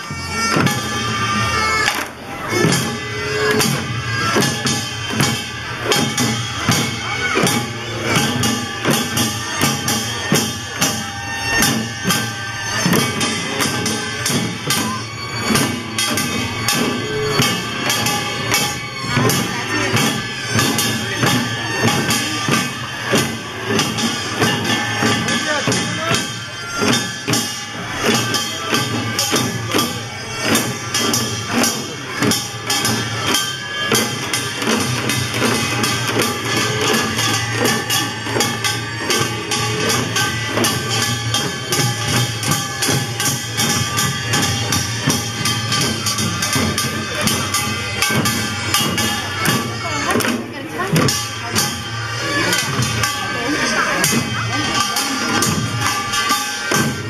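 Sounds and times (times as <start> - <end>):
drums in driving rhythm: 0.0 - 57.0
metal gongs ringing: 0.0 - 57.0.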